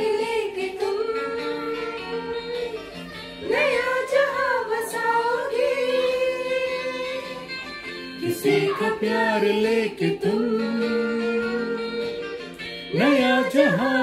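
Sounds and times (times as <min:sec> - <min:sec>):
woman singing into microphone: 0:00.0 - 0:07.6, 0:08.2 - 0:14.0
backing music: 0:00.0 - 0:14.0.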